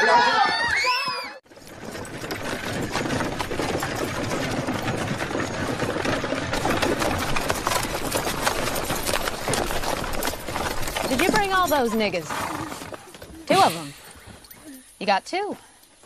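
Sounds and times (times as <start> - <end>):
horse hooves plodding: 0.0 - 16.0
wooden wagon clattering: 1.4 - 15.2.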